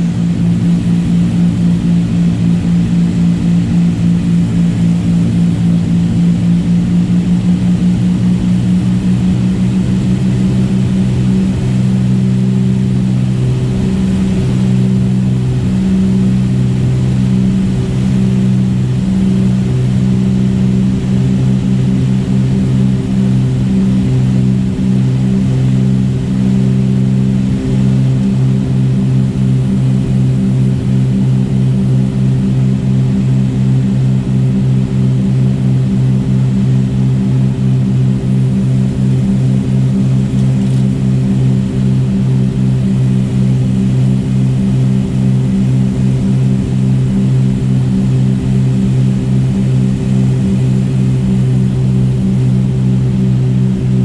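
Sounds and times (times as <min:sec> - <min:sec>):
aircraft propeller engines droning: 0:00.0 - 0:54.0.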